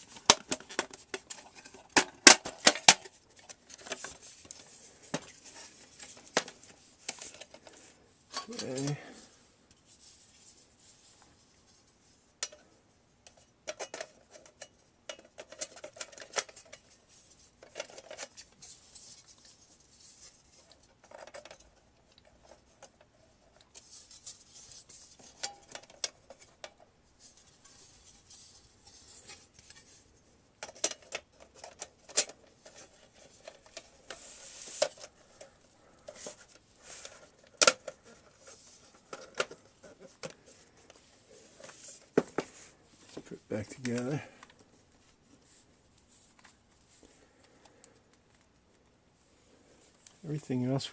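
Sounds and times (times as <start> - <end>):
hands handling plastic parts: 0.0 - 50.9.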